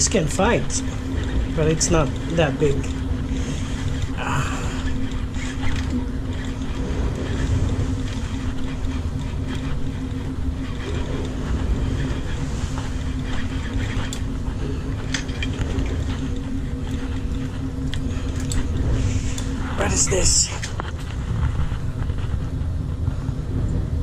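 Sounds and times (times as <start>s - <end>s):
ship machinery drone: 0.0s - 24.0s
wind buffeting microphone: 0.0s - 24.0s.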